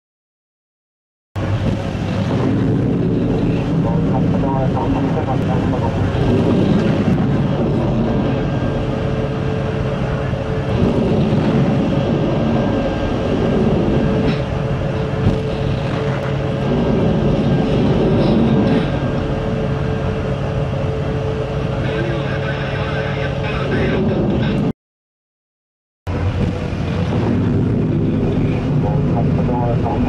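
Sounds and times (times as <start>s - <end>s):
rocket boosters rumbling: 1.4s - 24.7s, 26.1s - 30.0s
steady low hum: 1.4s - 24.7s, 26.1s - 30.0s.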